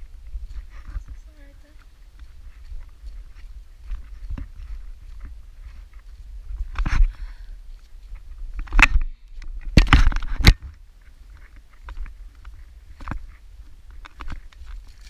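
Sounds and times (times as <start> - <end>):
footsteps crunching on rocky trail: 0.0 - 15.0.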